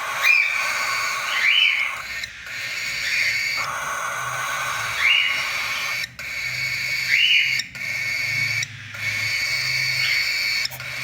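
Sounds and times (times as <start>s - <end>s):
cockatiel chick calling: 0.0s - 11.0s.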